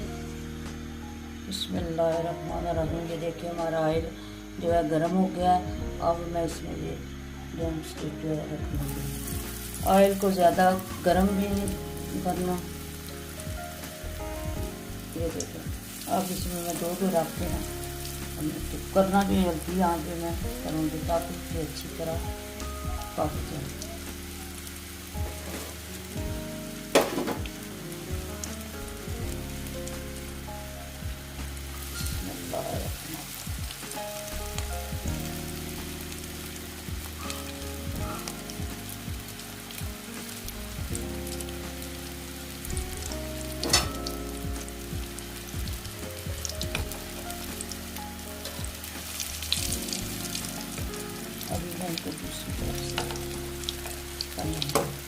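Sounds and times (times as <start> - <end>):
food sizzling in oil: 0.0 - 5.4, 6.2 - 55.0.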